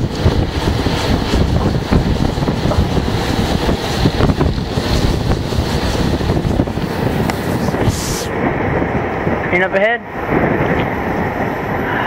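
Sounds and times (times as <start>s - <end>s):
train running rumble: 0.0s - 12.0s
wind buffeting microphone: 0.0s - 12.0s.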